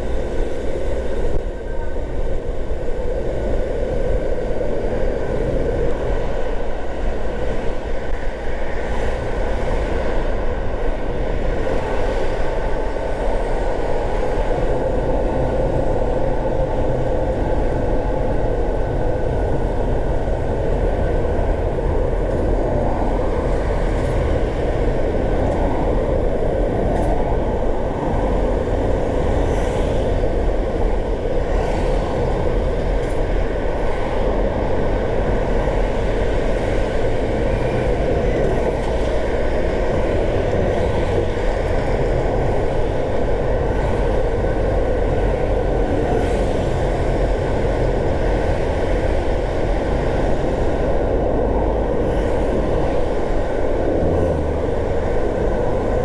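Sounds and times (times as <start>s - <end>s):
tyres rumbling on road: 0.0s - 56.0s
car engine: 2.4s - 56.0s.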